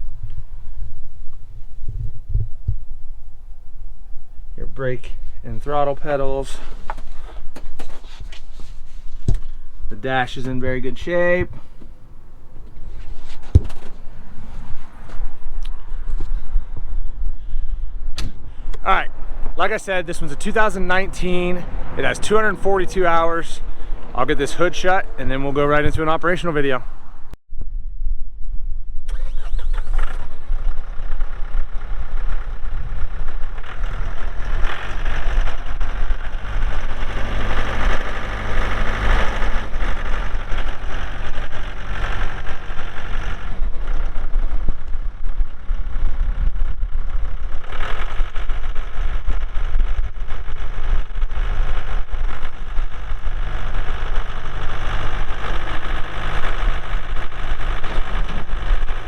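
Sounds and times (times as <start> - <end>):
tractor diesel engine running: 0.0 - 27.4, 30.4 - 59.0.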